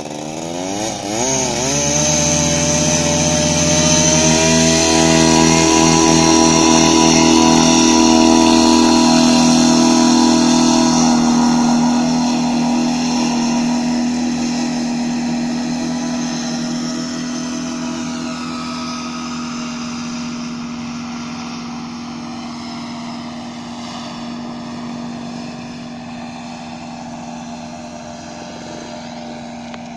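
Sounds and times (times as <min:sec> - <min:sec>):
paraglider motor buzzing drone: 0:00.0 - 0:29.9.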